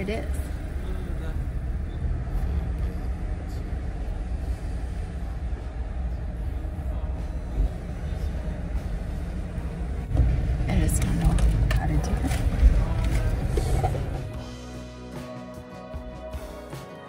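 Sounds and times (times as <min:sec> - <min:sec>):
low vehicle rumble: 0:00.0 - 0:14.8.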